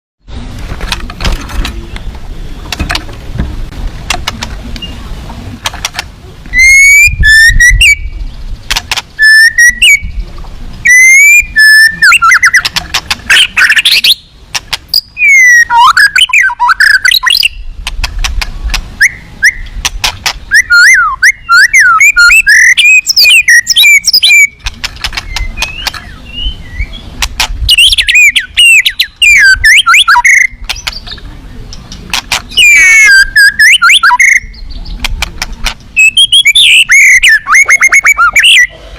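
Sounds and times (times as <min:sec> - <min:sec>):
songbird singing: 0:00.3 - 0:38.9.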